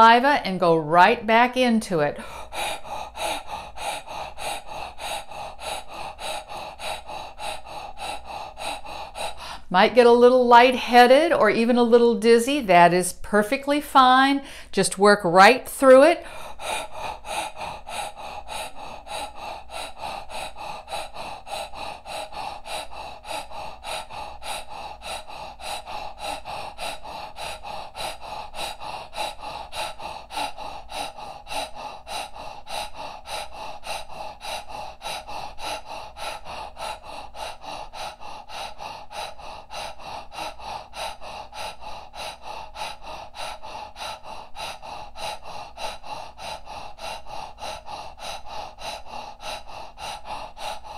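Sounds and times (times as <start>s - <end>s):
woman breathing rapidly: 0.0s - 50.9s.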